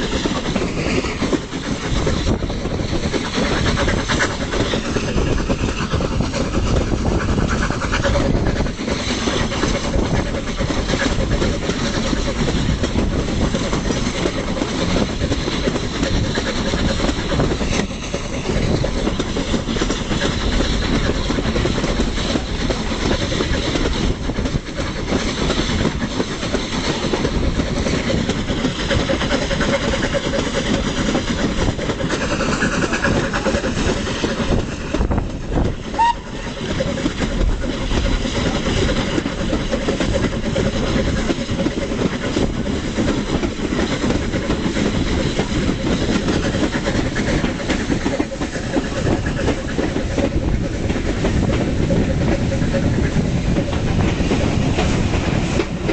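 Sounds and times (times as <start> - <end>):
steam locomotives working: 0.0 - 55.9
train coaches rumbling on rails: 0.0 - 55.9.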